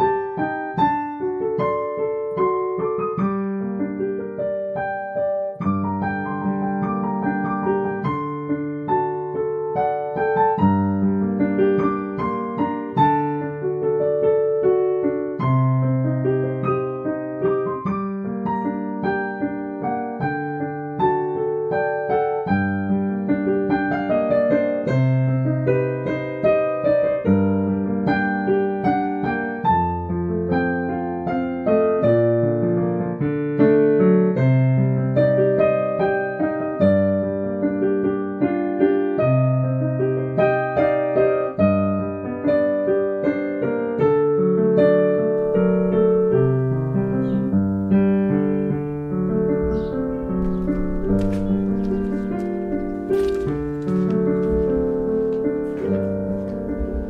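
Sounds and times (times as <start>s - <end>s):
electric piano music: 0.0s - 57.0s.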